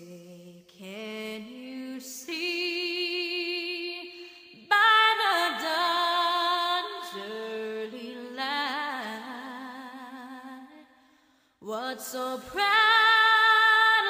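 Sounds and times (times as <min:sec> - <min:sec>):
wordless singing with vibrato: 0:00.0 - 0:14.0.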